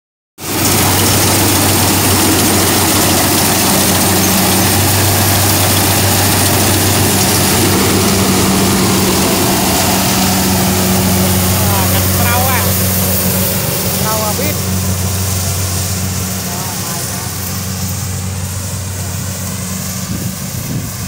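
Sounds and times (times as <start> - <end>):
combine harvester droning: 0.4 - 21.0.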